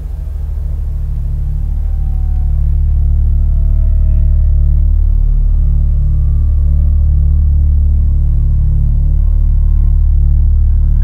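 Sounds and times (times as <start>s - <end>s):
deep dark drone music: 0.0s - 11.0s.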